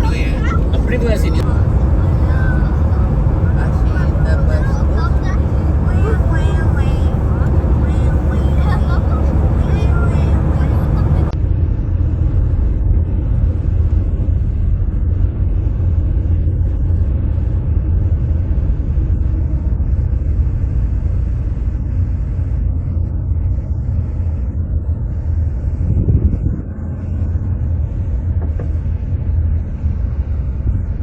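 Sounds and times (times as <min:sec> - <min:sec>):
car tyre and engine rumble: 0:00.0 - 0:31.0.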